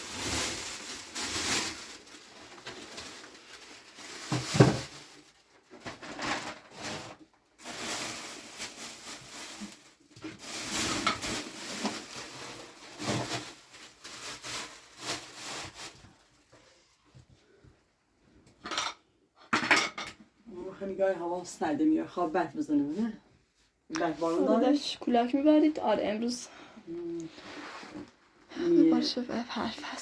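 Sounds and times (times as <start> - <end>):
rustling and handling noises: 0.0 - 18.8, 22.2 - 29.9.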